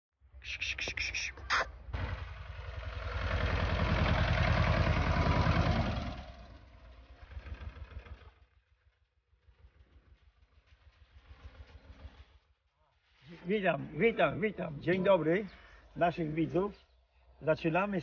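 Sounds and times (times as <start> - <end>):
tractor diesel engine running: 0.5 - 16.8.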